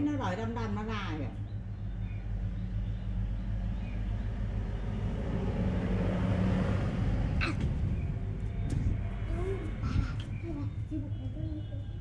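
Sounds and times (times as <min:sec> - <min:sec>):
vehicle engine rumble: 0:00.9 - 0:12.0.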